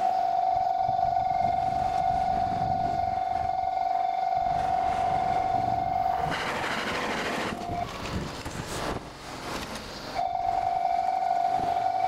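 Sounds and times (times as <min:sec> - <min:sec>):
sped-up crossing warning bell: 0:00.0 - 0:08.0, 0:10.2 - 0:12.0
passing train rush: 0:00.0 - 0:12.0.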